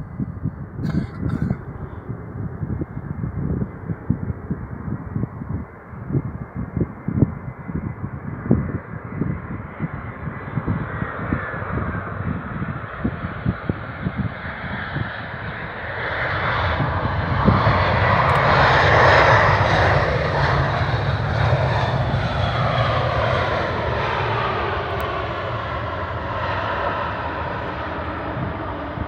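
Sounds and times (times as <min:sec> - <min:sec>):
jet airliner passing: 0:00.0 - 0:29.0.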